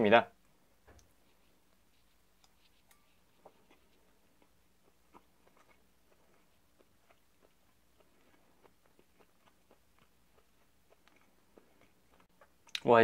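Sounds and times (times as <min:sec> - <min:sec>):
faint chewing: 0:00.4 - 0:12.9.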